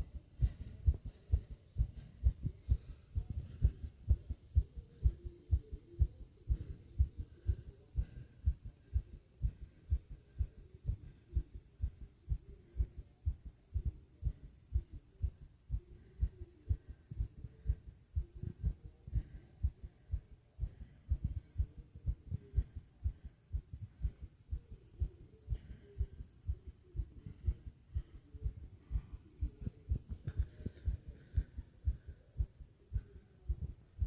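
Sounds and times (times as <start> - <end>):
fast heartbeat thumps: 0.0 - 34.0.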